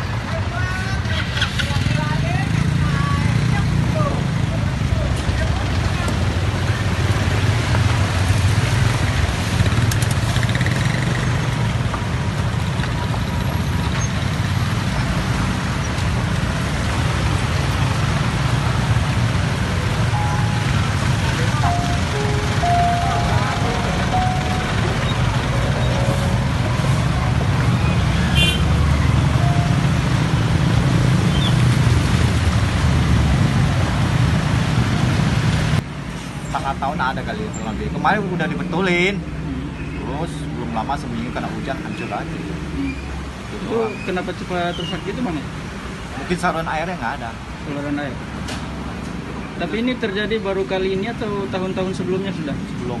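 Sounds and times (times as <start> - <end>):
slow traffic engines rumbling: 0.0 - 53.0.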